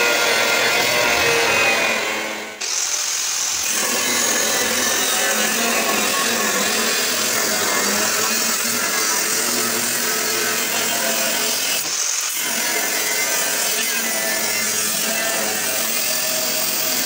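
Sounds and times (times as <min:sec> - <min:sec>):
angle grinder cutting steel: 0:00.0 - 0:17.0.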